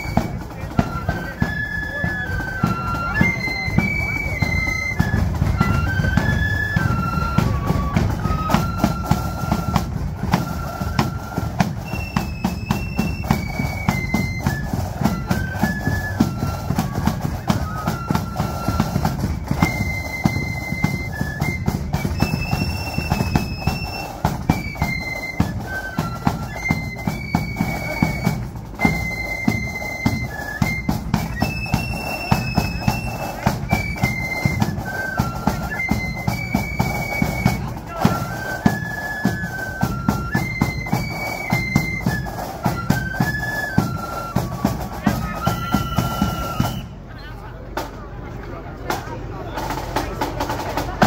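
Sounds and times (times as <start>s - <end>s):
rapid snare drum strokes: 0.0s - 46.9s, 48.8s - 51.0s
flute melody: 0.0s - 47.1s.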